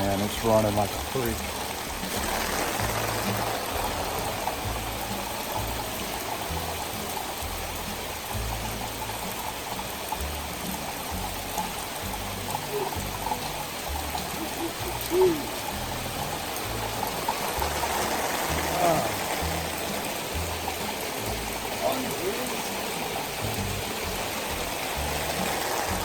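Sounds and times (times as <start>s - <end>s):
rushing runoff water: 0.0s - 26.0s.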